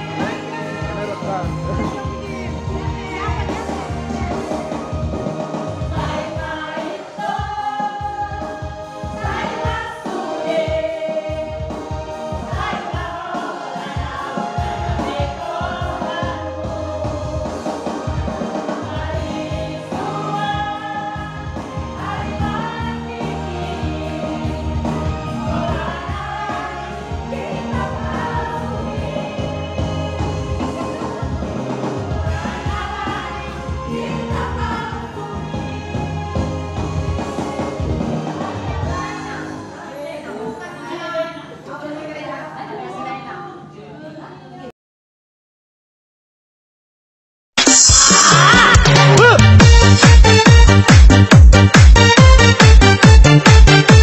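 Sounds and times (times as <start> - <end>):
choir singing gospel music: 0.0 - 41.2, 48.2 - 54.0.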